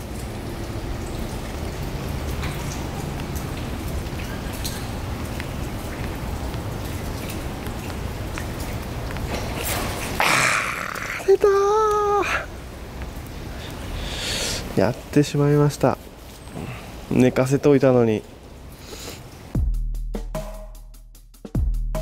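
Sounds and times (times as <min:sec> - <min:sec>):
water drops pattering on water: 0:00.0 - 0:19.5.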